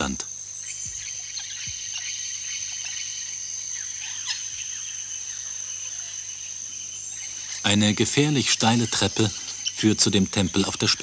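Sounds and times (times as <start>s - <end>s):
bird calls: 0.0s - 11.0s
high-pitched insect drone: 0.0s - 11.0s.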